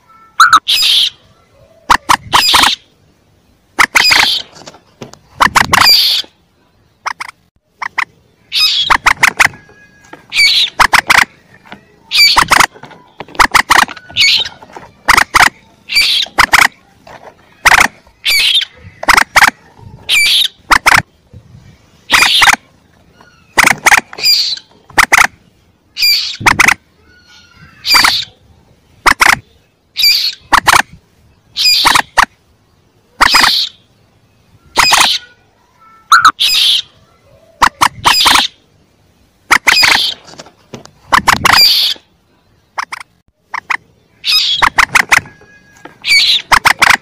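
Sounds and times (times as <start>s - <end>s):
moorhen calling: 0.0s - 40.4s, 41.0s - 47.0s.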